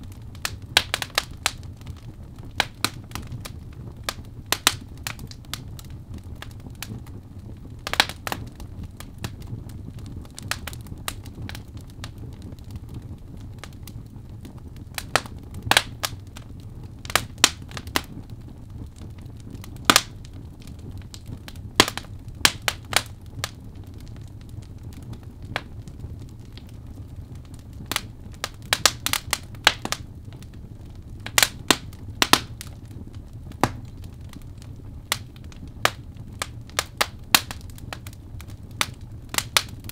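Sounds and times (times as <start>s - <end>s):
fire crackles and pops: 0.0s - 39.9s
fireplace flame rumble: 0.0s - 39.9s.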